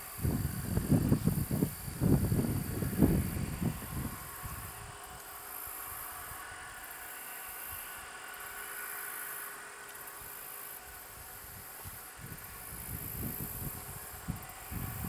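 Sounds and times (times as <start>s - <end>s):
distant steam locomotive rumble and hiss: 0.0s - 15.0s.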